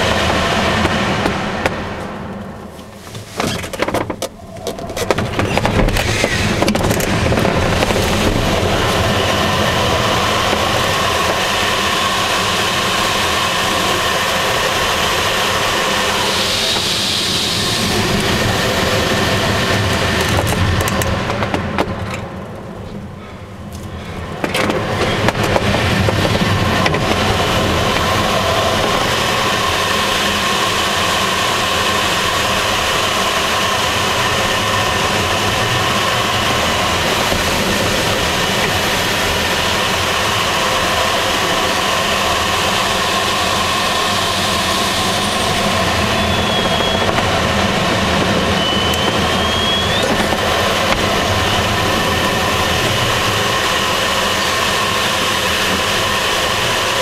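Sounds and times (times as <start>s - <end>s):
air rushing over glider: 4.3s - 22.0s, 23.2s - 57.0s.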